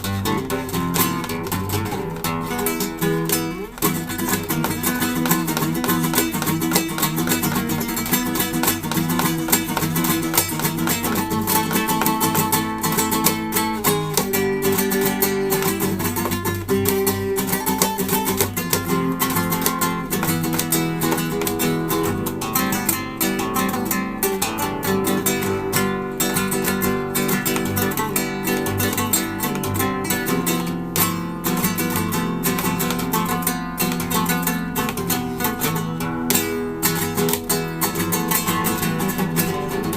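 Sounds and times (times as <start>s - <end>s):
flamenco acoustic guitar: 0.0s - 39.9s.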